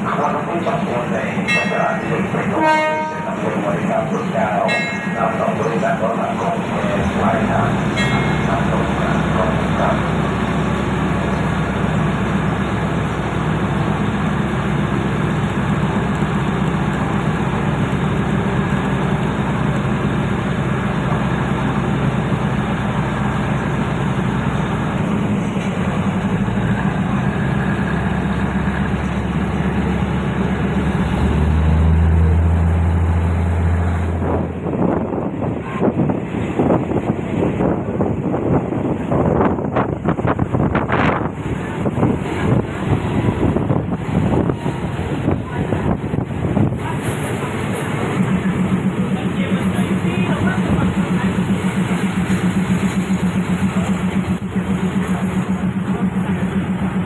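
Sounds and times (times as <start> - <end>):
rail running noise: 0.0 - 57.0
railcar engine drone: 0.0 - 57.0.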